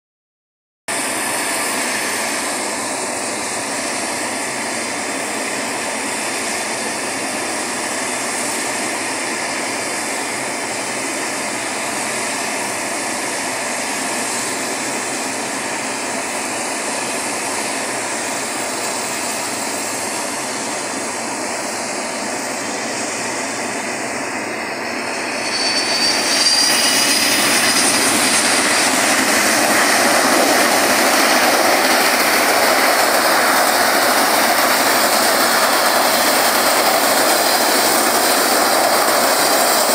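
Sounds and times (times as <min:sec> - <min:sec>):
high turbine whine: 0:00.9 - 0:39.9
jet airliner landing: 0:00.9 - 0:39.9.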